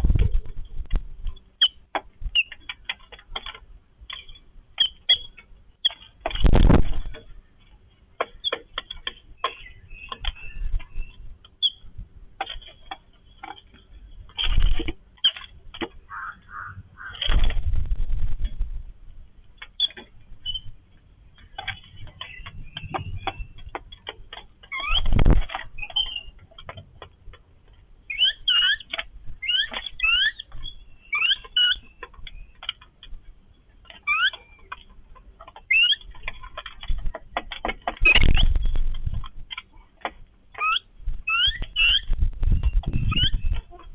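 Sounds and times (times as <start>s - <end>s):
birds clicking and scratchy calls: 0.0s - 43.9s.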